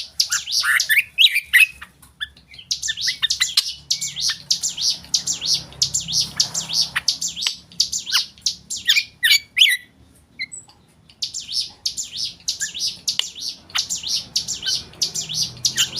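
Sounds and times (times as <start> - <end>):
bird chirping: 0.0 - 15.9.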